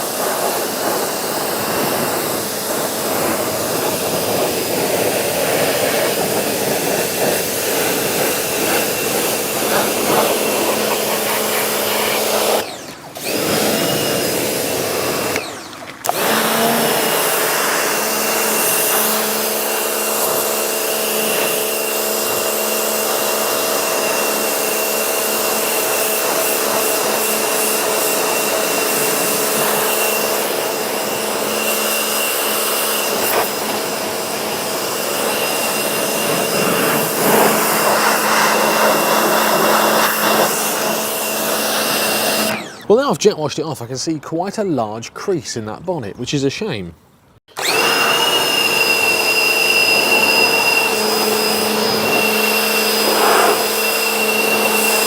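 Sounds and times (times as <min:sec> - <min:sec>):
pressure washer water jet hissing: 0:00.0 - 0:42.9, 0:47.5 - 0:55.0
pressure washer whine: 0:00.0 - 0:43.1, 0:47.4 - 0:55.0.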